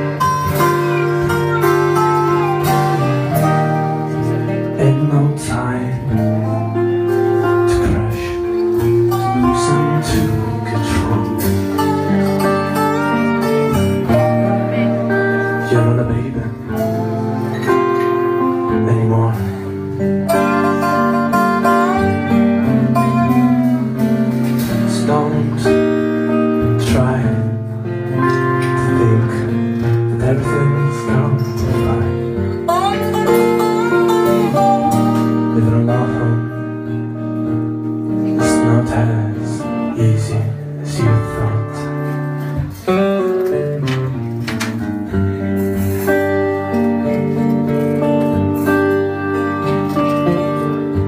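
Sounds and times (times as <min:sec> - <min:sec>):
acoustic guitar: 0:00.0 - 0:51.0
resonator guitar sliding notes: 0:00.0 - 0:51.0.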